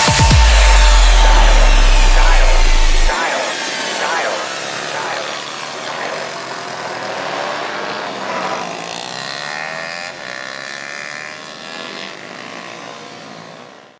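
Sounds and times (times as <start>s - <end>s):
pitbike engines revving: 0.0s - 13.9s.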